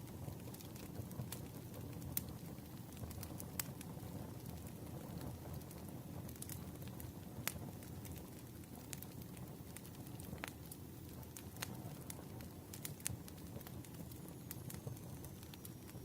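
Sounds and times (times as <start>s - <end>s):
campfire crackling: 0.0s - 16.0s
fire popping: 0.0s - 16.0s.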